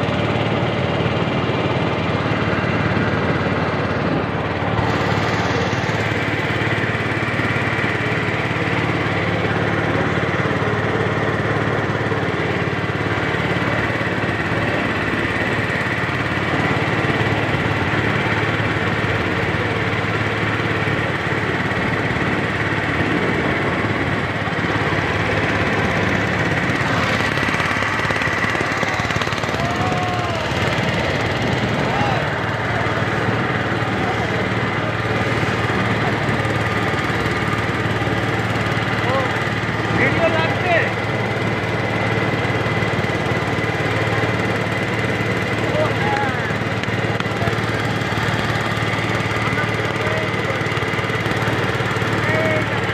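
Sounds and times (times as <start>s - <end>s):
boat engine droning: 0.0s - 52.9s.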